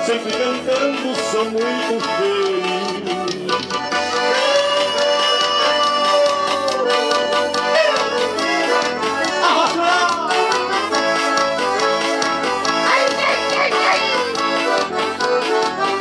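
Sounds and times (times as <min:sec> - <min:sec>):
accordion melody: 0:00.0 - 0:16.0
percussion beat: 0:00.0 - 0:16.0.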